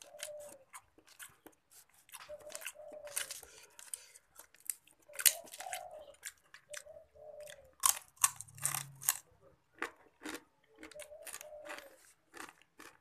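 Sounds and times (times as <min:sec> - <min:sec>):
man chewing with wet mouth clicks: 0:00.0 - 0:13.0.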